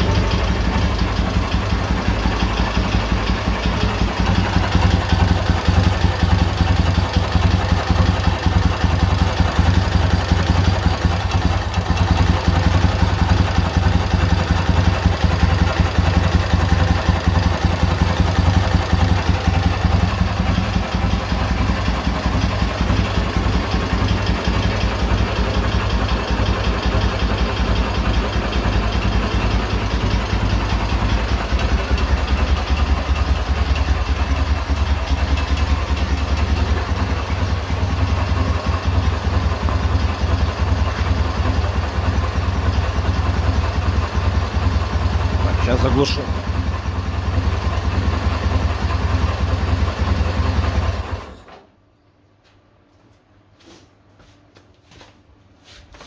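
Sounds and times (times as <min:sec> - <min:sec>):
motorcycle engine idling: 0:00.0 - 0:51.4.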